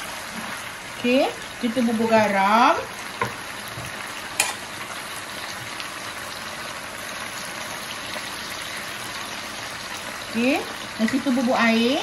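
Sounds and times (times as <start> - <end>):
chicken sizzling in a wok: 0.0 - 12.0.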